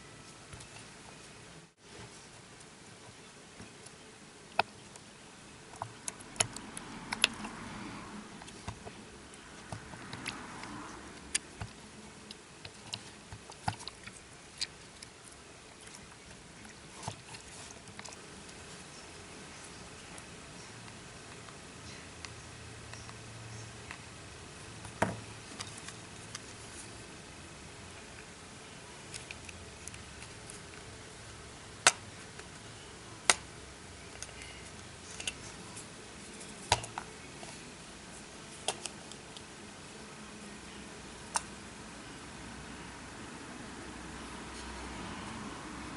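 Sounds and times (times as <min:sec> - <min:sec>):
faint steady hiss: 0:00.0 - 0:45.9.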